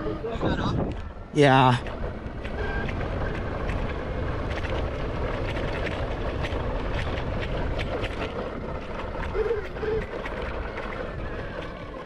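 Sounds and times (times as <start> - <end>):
tyres rolling on dirt: 0.0 - 12.0
wind rushing over microphone: 0.0 - 12.0.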